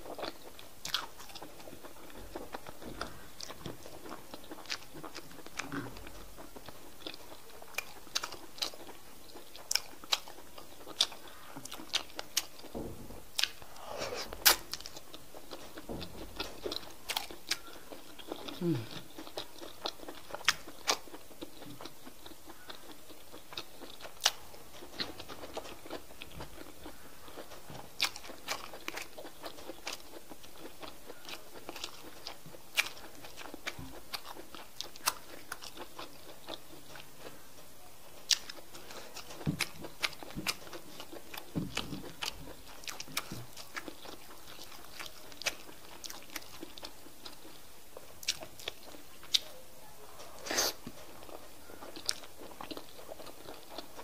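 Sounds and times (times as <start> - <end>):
chewing and biting: 0.0 - 49.6, 50.3 - 54.0.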